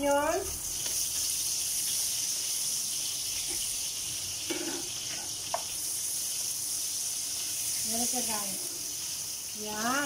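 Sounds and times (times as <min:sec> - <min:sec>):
onion sizzling in hot oil: 0:00.0 - 0:10.0.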